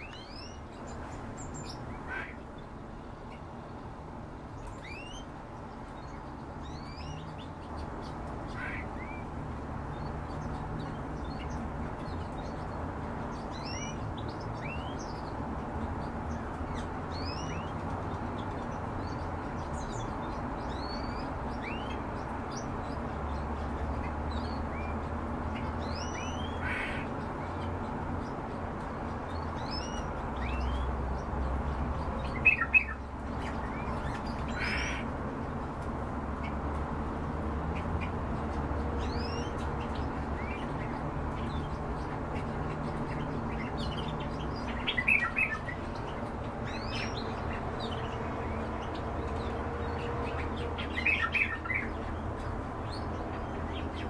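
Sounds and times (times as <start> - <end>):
sharp loud bird calls: 0.0 - 3.4, 4.6 - 35.6, 37.6 - 54.0
cage birds chirping: 0.0 - 54.0.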